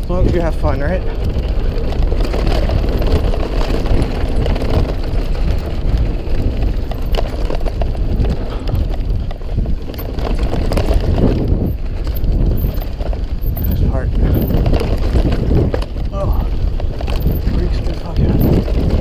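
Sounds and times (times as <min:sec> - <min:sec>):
bike rattling: 0:00.0 - 0:19.0
tyres rumbling on dirt trail: 0:00.0 - 0:19.0.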